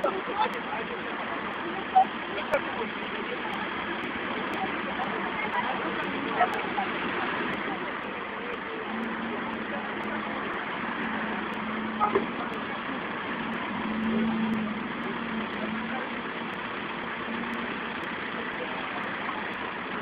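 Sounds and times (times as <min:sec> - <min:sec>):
bus engine idling: 0:00.0 - 0:20.0
street noise: 0:00.0 - 0:20.0.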